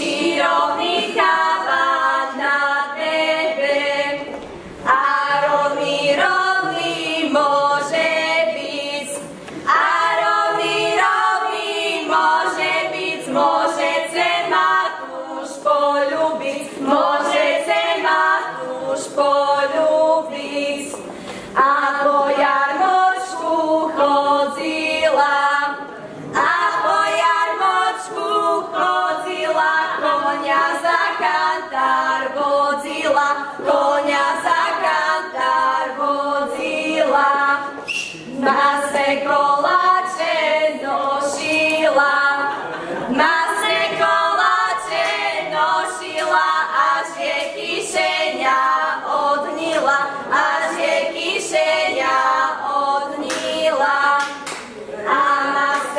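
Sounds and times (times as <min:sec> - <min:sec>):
women singing folk song unaccompanied: 0:00.0 - 0:55.9.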